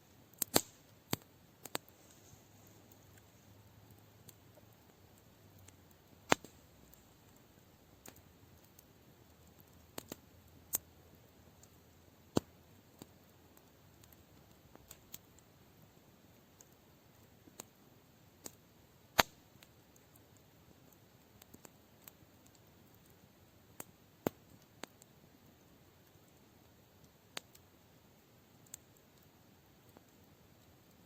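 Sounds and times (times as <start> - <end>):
campfire crackling and popping: 0.1 - 31.0.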